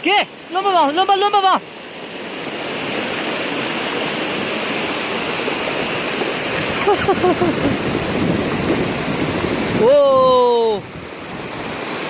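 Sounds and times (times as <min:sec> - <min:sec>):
floodwater rushing in a river: 0:00.0 - 0:12.0.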